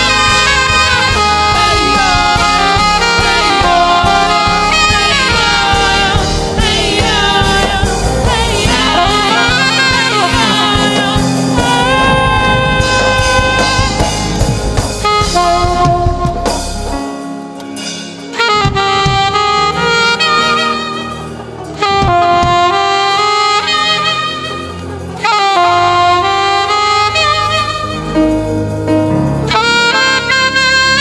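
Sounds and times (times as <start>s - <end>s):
saxophone playing long notes: 0.0s - 17.2s, 18.3s - 31.0s
live gospel band: 0.0s - 31.0s.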